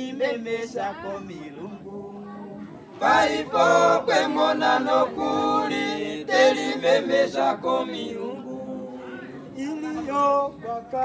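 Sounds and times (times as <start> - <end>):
group singing without instruments: 0.0 - 11.0.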